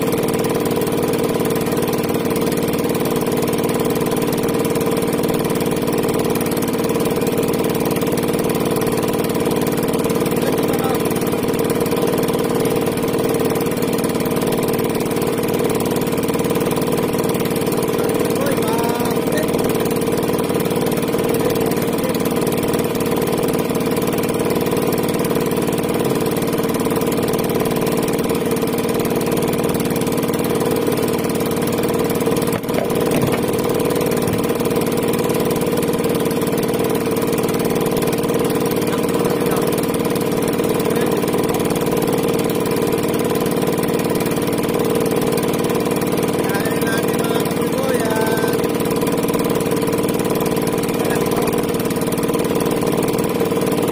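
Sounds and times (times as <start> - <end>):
small engine humming: 0.0 - 53.9.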